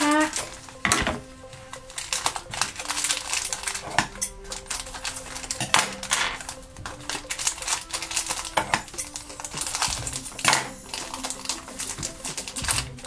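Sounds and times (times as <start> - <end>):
plastic bag crinkling: 0.0 - 13.0
scissors cutting plastic: 0.0 - 13.0
soft background music: 0.0 - 13.0.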